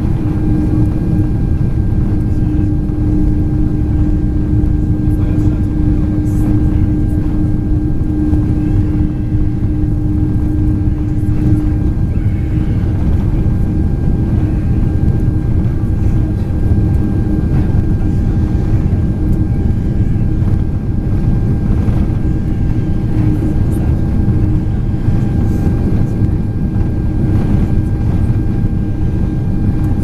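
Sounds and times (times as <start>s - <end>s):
engine and airflow rumble: 0.0s - 30.0s
steady hum: 0.0s - 30.0s.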